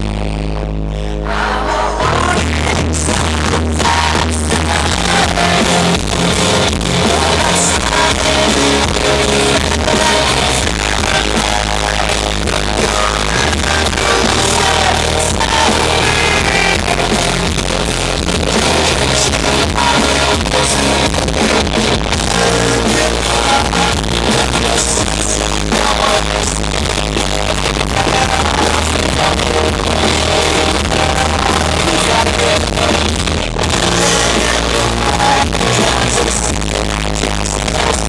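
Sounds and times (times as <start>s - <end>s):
live rock band playing: 1.3s - 38.0s.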